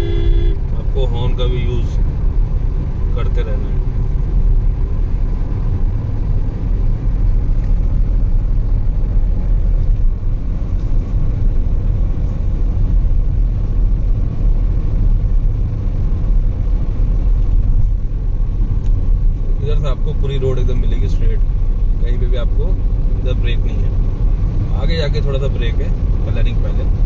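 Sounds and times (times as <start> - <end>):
car cruising interior rumble: 0.0 - 27.0.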